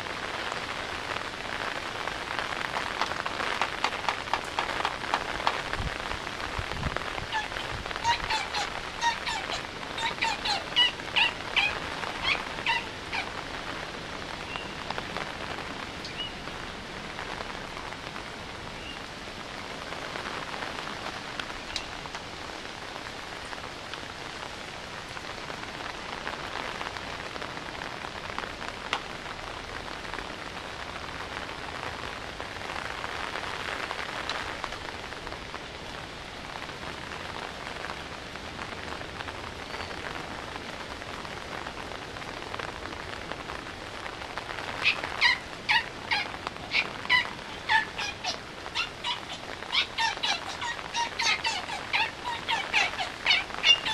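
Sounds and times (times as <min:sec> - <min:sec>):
rain falling: 0:00.0 - 0:53.9
raindrops ticking: 0:00.0 - 0:53.9.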